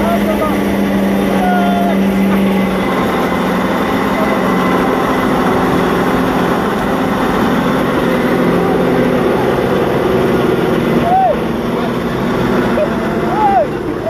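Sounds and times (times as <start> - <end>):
off-road vehicle engine: 0.0 - 14.0.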